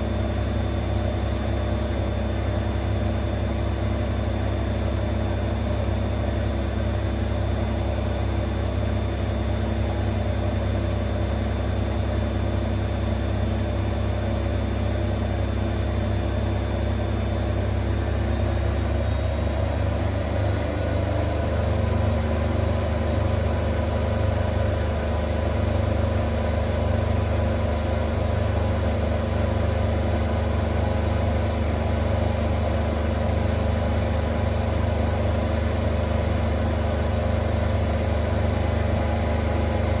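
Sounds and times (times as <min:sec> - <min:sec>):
washing machine spinning: 0:00.0 - 0:40.0.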